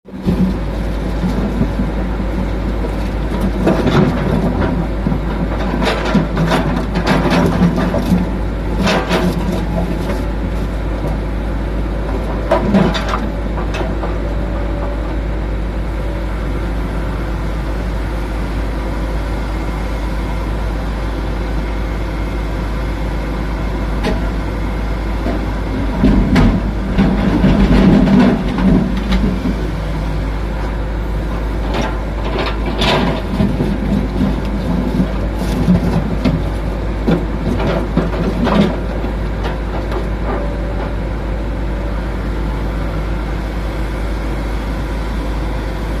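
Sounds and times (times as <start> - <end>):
excavator diesel engine: 0.1 - 46.0.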